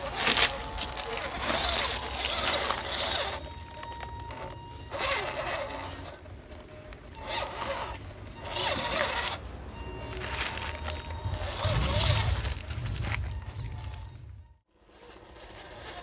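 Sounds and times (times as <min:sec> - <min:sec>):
tyres crunching on stones: 0:00.0 - 0:09.4, 0:10.0 - 0:14.3
toy car motor and gears whirring: 0:00.0 - 0:16.0.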